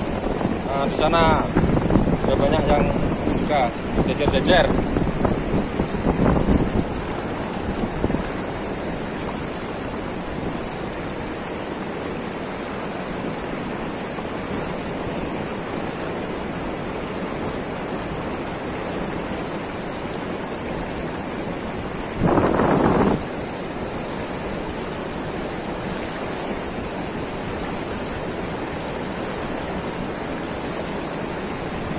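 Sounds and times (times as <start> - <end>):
fast river current rushing: 0.0 - 31.9.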